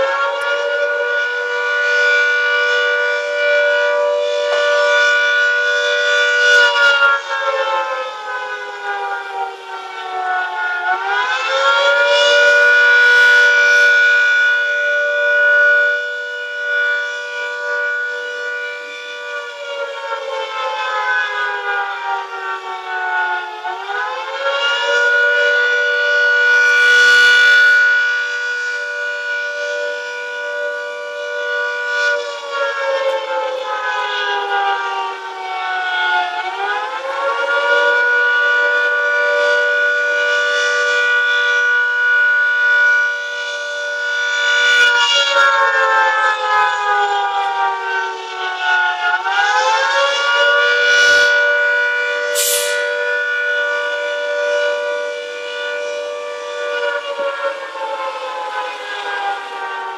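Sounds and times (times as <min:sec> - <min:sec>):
air raid siren wailing: 0:00.0 - 0:59.9.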